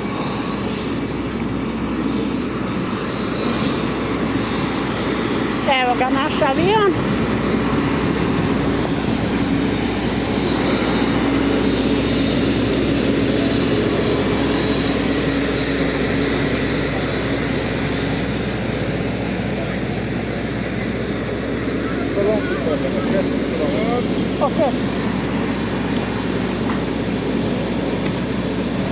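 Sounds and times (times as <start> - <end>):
jet airliner engine whine: 0.0 - 28.9.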